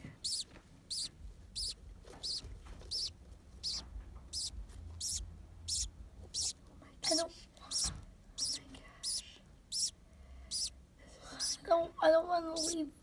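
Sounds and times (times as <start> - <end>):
budgerigar chick peeping: 0.0 - 10.8, 11.4 - 11.7, 12.5 - 12.8.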